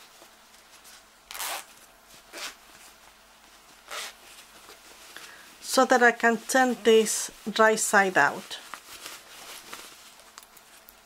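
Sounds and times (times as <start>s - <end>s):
fabric pouch rustling: 0.0s - 5.5s, 6.4s - 10.9s.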